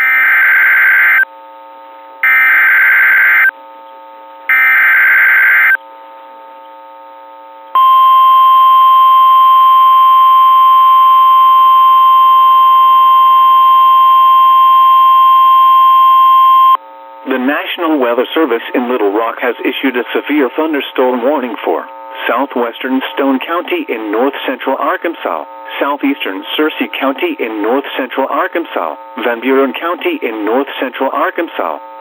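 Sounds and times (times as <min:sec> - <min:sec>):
harsh buzzing data chirps: 0:00.0 - 0:01.3, 0:02.2 - 0:32.0
steady warning alarm tone: 0:00.0 - 0:01.3, 0:02.2 - 0:03.5, 0:04.5 - 0:05.8, 0:07.8 - 0:32.0.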